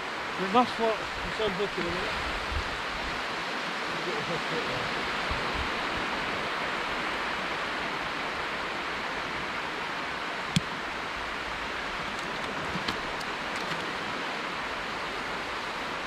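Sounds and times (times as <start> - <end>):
light rain hissing: 0.0 - 16.0.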